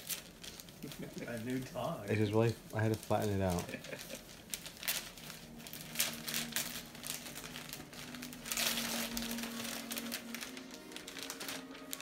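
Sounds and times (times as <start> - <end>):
wrapping paper crinkling and tearing: 0.0 - 12.0.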